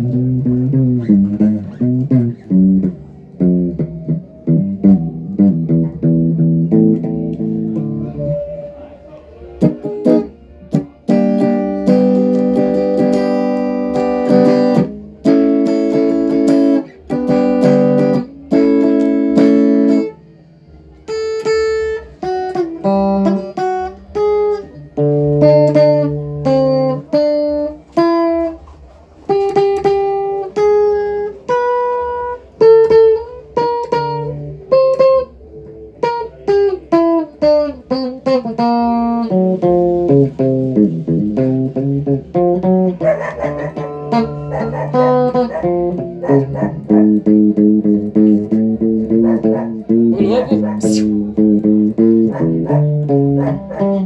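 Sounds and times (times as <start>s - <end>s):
electric guitar playing: 0.0s - 54.0s.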